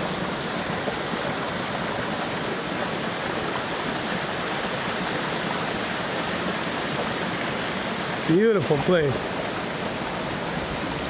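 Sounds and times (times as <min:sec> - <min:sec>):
waterfall pouring into pond: 0:00.0 - 0:11.0.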